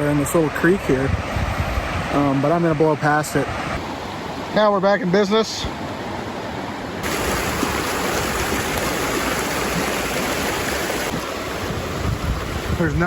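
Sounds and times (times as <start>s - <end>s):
creek rushing over rocks: 2.1s - 13.0s.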